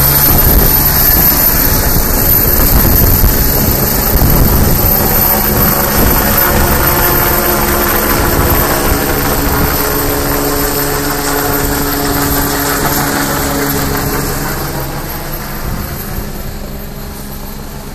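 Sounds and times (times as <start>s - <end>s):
helicopter flying overhead: 0.0s - 17.9s.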